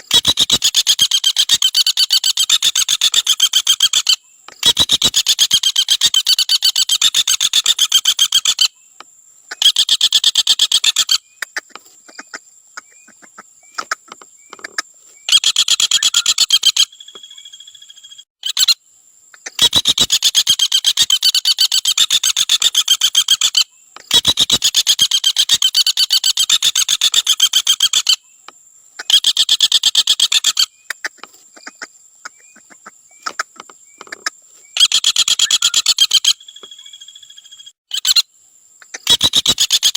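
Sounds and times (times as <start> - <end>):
woodpecker rattling trill: 0.1 - 8.8, 9.5 - 18.8, 19.4 - 28.3, 29.0 - 38.2, 38.8 - 39.9.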